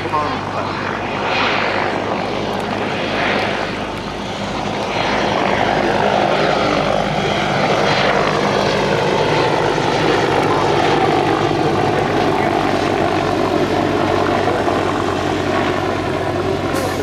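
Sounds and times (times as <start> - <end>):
helicopter rotor humming: 0.0 - 17.0.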